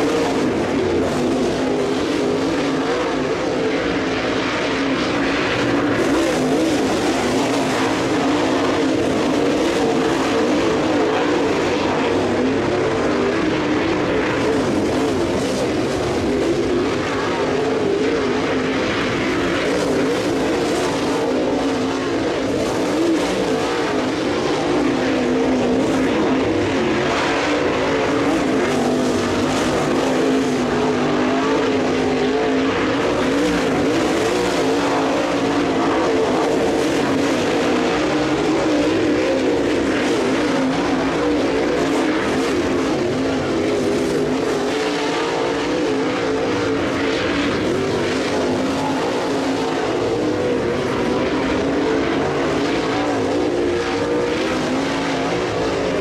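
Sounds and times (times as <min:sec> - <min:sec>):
race car engines at speed: 0:00.0 - 0:56.0.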